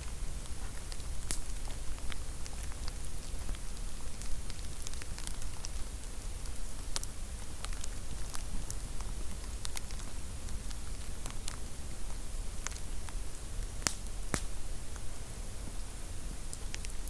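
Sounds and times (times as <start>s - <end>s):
firewood crackling and popping: 0.0s - 17.0s
steady fire hiss: 0.0s - 17.0s.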